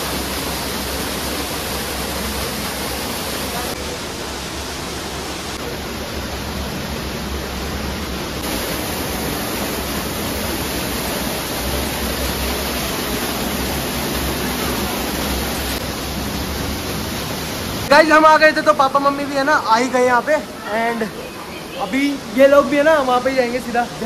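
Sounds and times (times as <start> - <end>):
water rushing down waterfall: 0.0 - 24.0.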